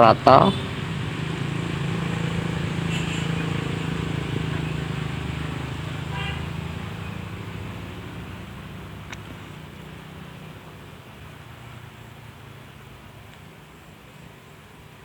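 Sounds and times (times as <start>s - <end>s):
vehicle engine low drone: 0.0s - 14.9s.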